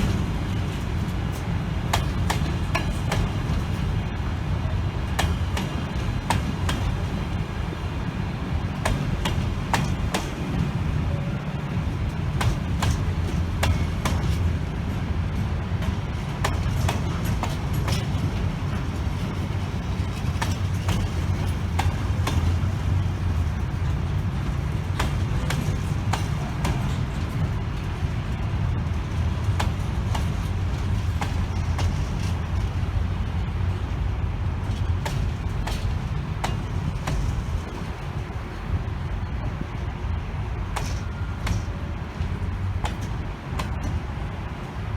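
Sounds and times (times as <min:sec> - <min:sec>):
train rumbling past: 0:00.0 - 0:44.9
wheels clicking on track: 0:00.0 - 0:44.9.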